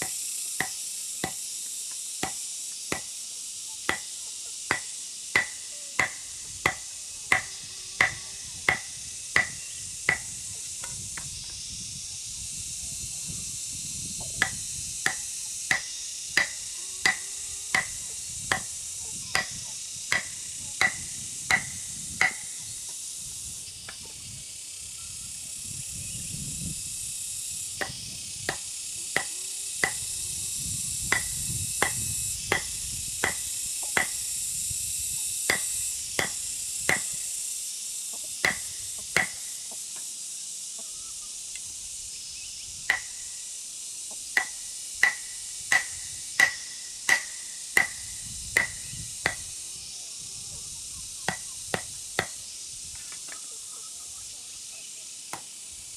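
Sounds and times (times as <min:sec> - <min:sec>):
steady high hiss: 0:00.0 - 0:55.9.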